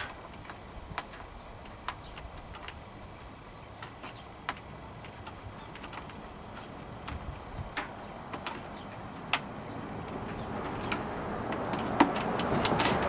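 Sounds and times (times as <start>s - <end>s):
faint low background noise: 0.0s - 13.0s.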